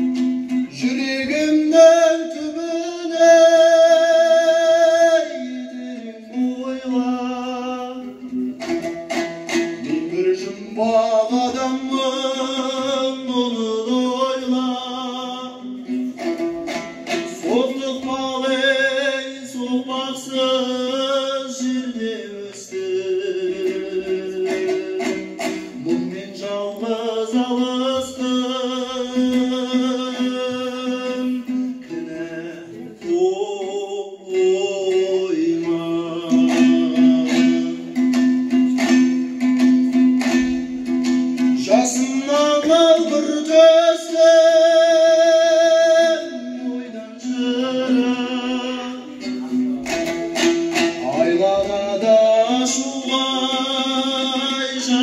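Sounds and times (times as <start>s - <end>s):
man singing: 0.0s - 55.0s
two-stringed lute strummed: 0.0s - 55.0s.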